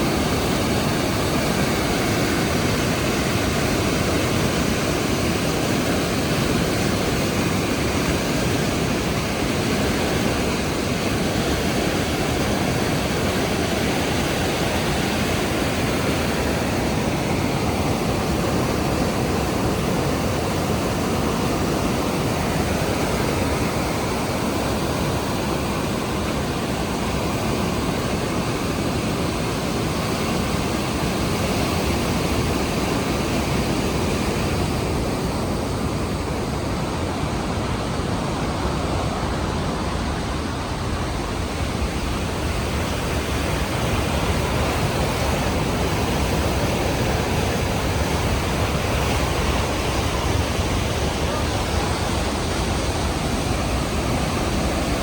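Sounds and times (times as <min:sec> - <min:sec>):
waterfall roar: 0:00.0 - 0:55.0.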